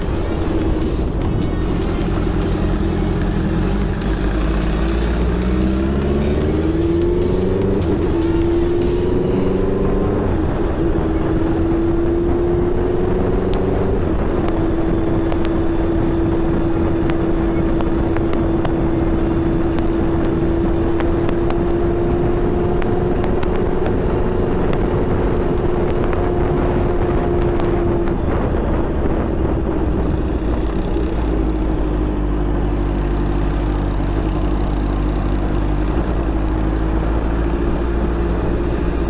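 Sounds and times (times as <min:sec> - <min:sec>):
motorcycle engine running: 0:00.0 - 0:39.0
wind rush: 0:00.0 - 0:39.0.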